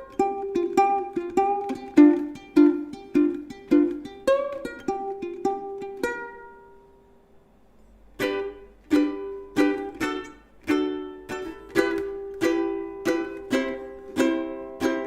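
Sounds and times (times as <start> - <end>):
ukulele plucked notes: 0.0 - 7.2, 8.1 - 15.0
ukulele strummed chords: 0.0 - 7.2, 8.1 - 15.0.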